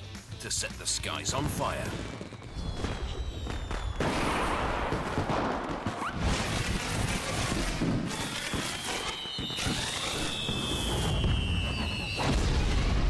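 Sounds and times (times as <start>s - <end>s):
fireworks crackling: 0.5s - 13.0s
fireworks popping: 0.5s - 13.0s
rising firework whistle: 1.4s - 13.0s.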